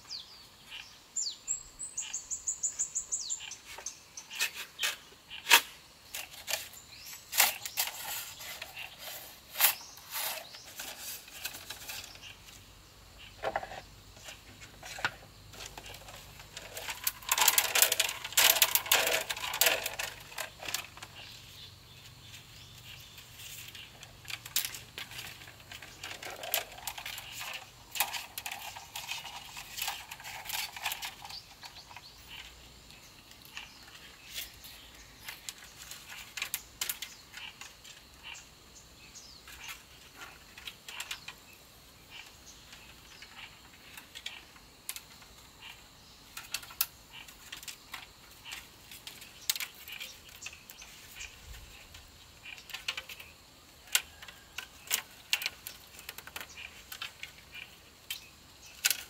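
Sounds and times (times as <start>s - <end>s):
bamboo strips clicking and scraping: 3.4s - 38.4s, 39.4s - 59.0s.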